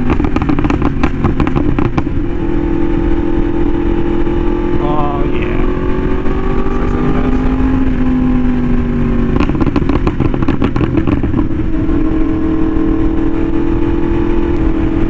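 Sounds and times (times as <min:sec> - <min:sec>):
exhaust crackling: 0:00.0 - 0:15.0
motorcycle engine cruising: 0:00.0 - 0:15.0.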